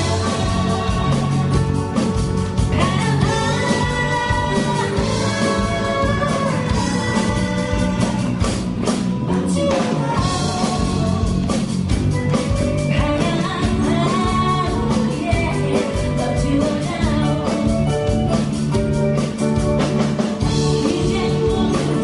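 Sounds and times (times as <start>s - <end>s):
live rock band with singer: 0.0s - 22.0s.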